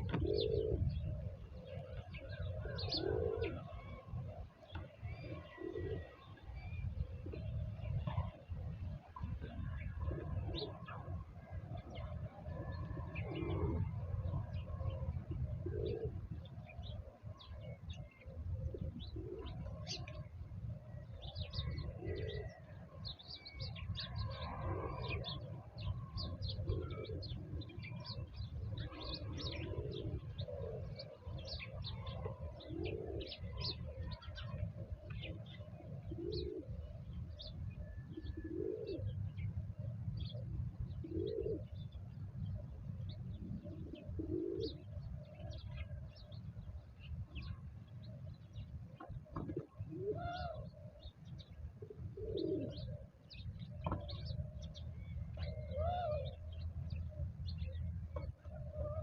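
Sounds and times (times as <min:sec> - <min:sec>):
doves cooing: 0:00.0 - 0:59.0
songbirds chirping: 0:00.0 - 0:59.0.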